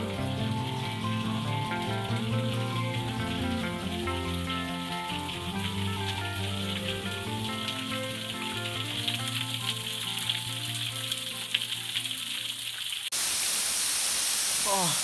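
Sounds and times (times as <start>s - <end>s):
soft background music: 0.0s - 12.6s
small waterfall rushing: 0.0s - 15.0s
water dripping and trickling: 0.0s - 15.0s.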